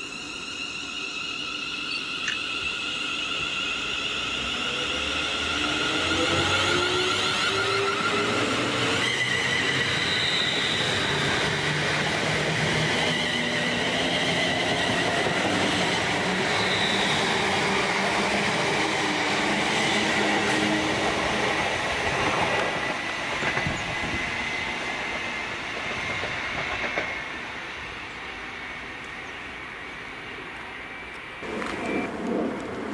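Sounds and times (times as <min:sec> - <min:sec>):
high train whine: 0:00.0 - 0:32.9
train wheels rattling on rails: 0:01.8 - 0:29.4.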